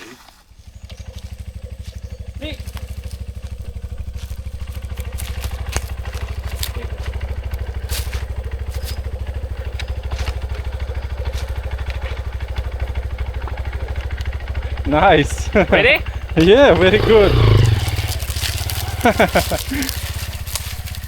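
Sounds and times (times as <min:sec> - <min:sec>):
small engine idling: 0:00.3 - 0:21.0
light clicks and clatter: 0:00.8 - 0:14.9, 0:15.6 - 0:21.0.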